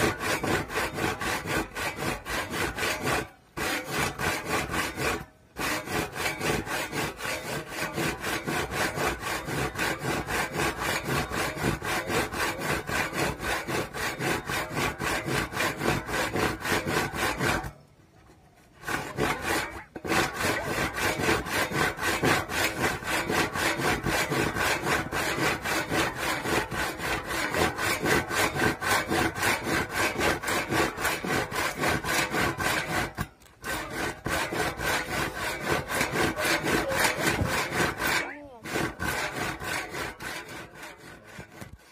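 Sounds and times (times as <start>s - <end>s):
handsaw cutting wood: 0.0s - 17.8s, 18.8s - 41.9s.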